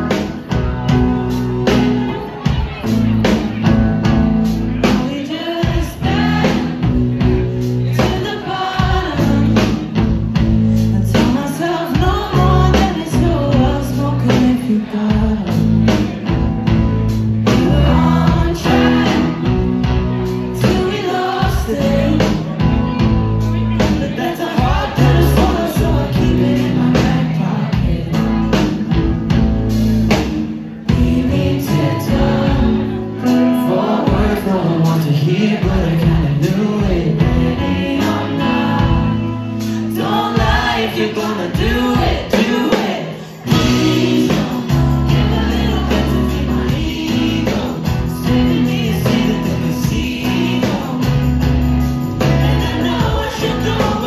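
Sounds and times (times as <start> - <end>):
drum kit: 0.0 - 54.0
electric guitars: 0.0 - 54.0
people singing: 4.8 - 16.3, 17.4 - 22.8, 23.8 - 29.4, 30.8 - 54.0.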